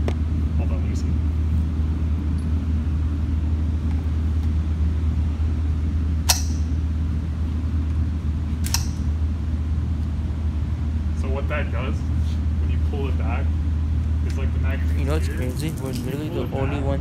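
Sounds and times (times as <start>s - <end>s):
low rumble of air handling: 0.0s - 17.0s.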